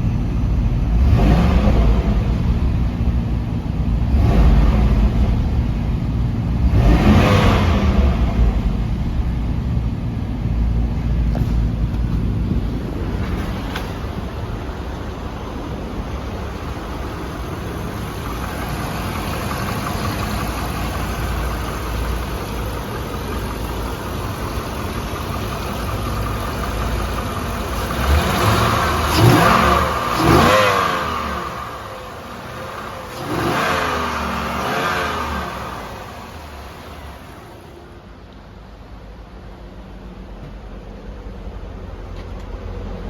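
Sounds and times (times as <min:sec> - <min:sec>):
vehicle engine running: 0:00.0 - 0:43.0
engine revving: 0:00.6 - 0:37.2.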